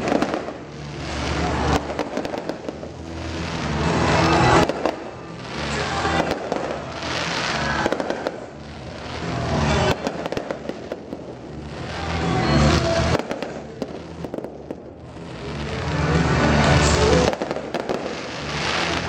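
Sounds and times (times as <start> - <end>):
dense fireworks crackling: 0.0 - 19.0.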